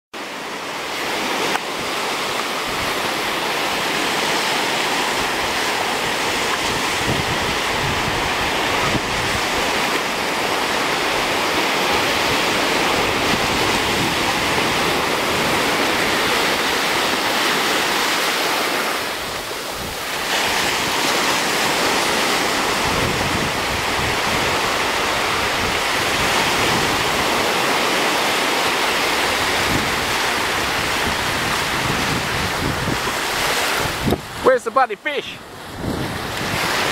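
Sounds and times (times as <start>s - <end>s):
small ocean waves breaking: 0.2s - 36.9s
wind buffeting microphone: 1.0s - 34.4s, 35.4s - 36.9s.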